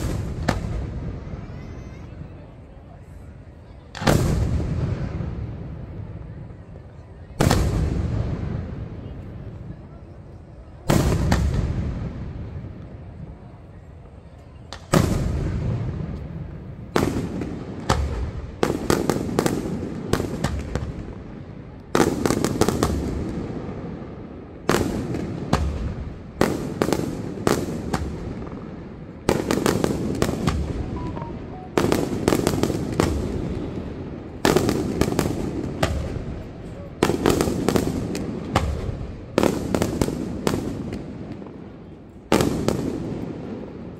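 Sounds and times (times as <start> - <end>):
firework bangs echoing: 0.0 - 1.7, 3.9 - 6.1, 7.4 - 9.0, 10.8 - 12.7, 14.7 - 43.9.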